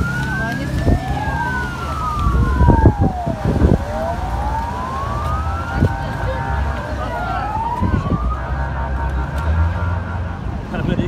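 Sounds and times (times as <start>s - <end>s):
siren wailing: 0.0s - 11.0s
steady low rumble: 0.0s - 11.0s.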